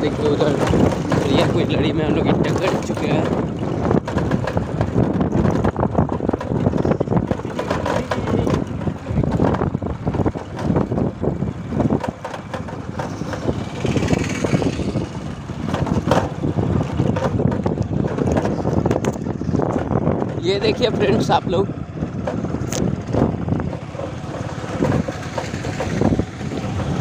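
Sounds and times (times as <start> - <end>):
motorbike engine: 0.0 - 27.0
wind buffeting microphone: 0.0 - 27.0.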